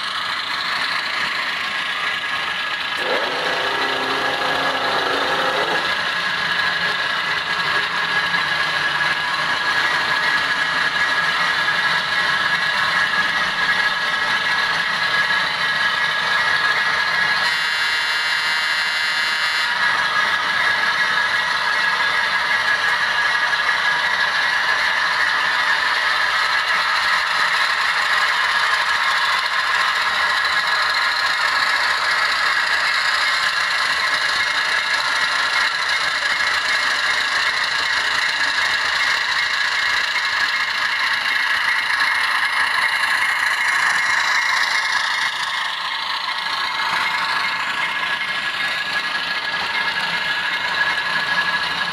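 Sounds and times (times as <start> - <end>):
model train motor whirring: 0.0 - 17.8, 19.6 - 51.9.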